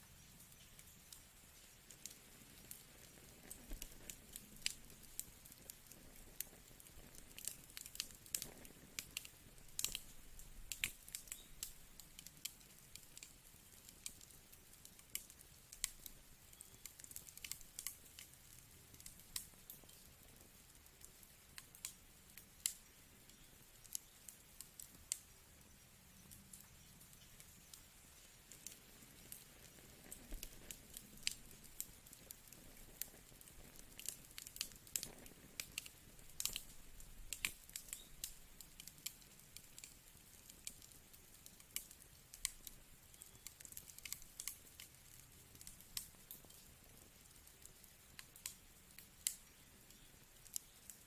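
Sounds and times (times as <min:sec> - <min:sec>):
faint steady hiss: 0:00.0 - 0:51.0
wood fire crackling and popping: 0:00.0 - 0:51.0.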